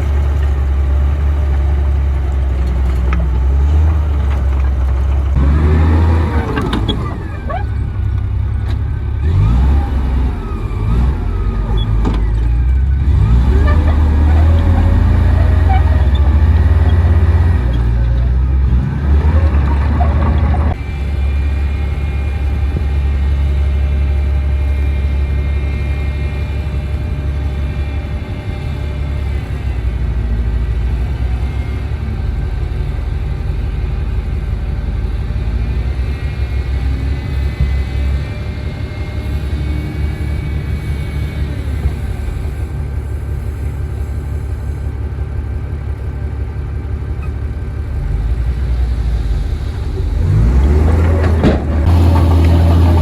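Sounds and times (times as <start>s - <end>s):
steel tracks clanking: 0.0s - 45.0s, 47.8s - 53.0s
steel tracks squeaking: 0.0s - 45.1s, 47.2s - 53.0s
bulldozer diesel engine droning: 0.0s - 53.0s.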